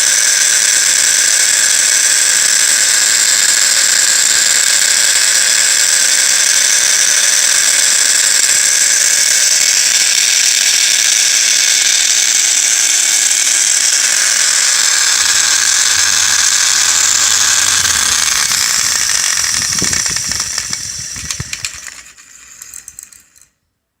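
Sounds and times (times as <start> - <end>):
grinder rattling: 0.0 - 23.5
disc grinder squealing: 2.4 - 23.2.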